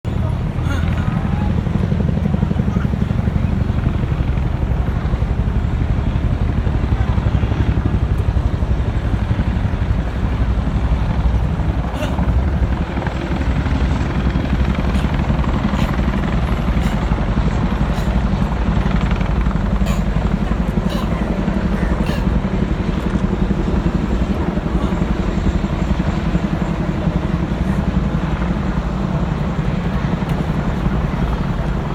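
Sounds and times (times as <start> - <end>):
helicopter rotors beating: 0.0 - 31.9.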